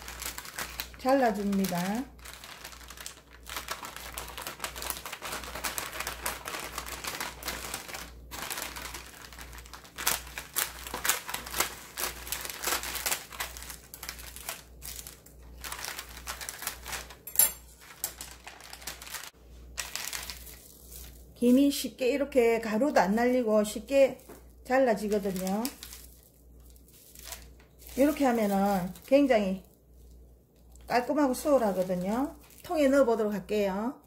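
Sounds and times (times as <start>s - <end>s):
plastic crinkling: 0.0s - 33.6s.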